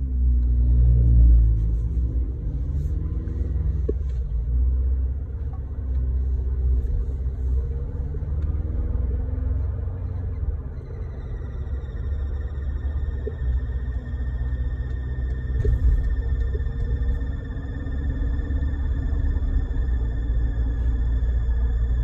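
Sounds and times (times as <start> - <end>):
transmission whine: 0.0 - 22.0
vehicle engine rumble: 0.0 - 22.0.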